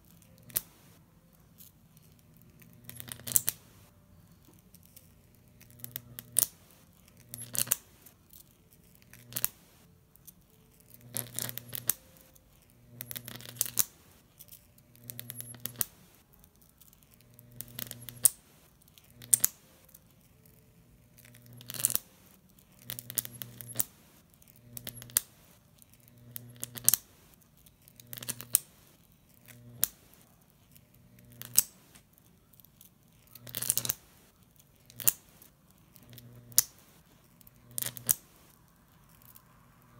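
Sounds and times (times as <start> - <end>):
electric arc buzzing and crackling: 2.0 - 3.9, 4.8 - 9.9, 10.5 - 32.5, 33.2 - 39.9.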